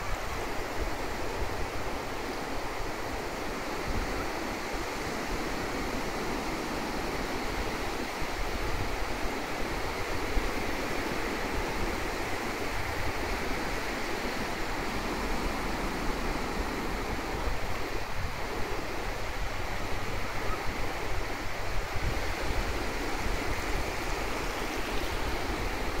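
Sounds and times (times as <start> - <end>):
small waves washing on beach: 0.0 - 26.0
wind rumble on microphone: 0.0 - 26.0.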